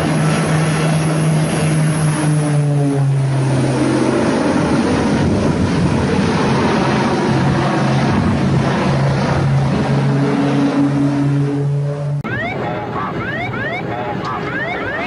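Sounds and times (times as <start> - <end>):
propeller and engine drone: 0.0 - 15.0
turboprop aircraft passing low: 0.0 - 15.0.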